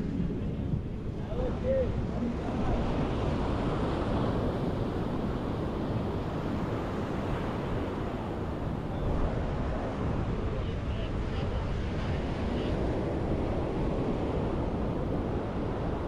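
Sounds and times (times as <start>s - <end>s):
surf breaking on sand: 0.0s - 16.0s
wind rumble on microphone: 0.0s - 16.0s.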